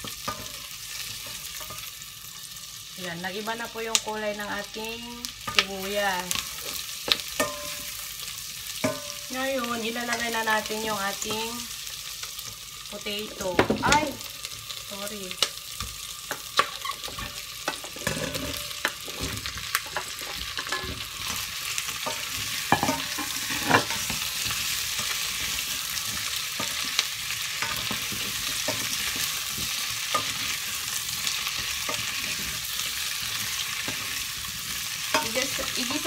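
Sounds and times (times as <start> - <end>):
potatoes sizzling in a pan: 0.0 - 36.0.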